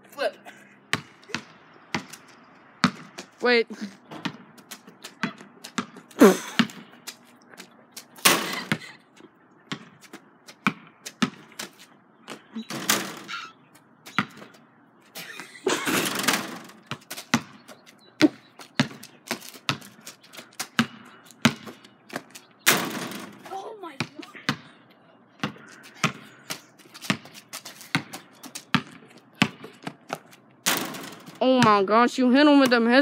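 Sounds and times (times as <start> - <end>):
basketball bouncing on pavement: 0.9 - 14.6, 15.4 - 33.0.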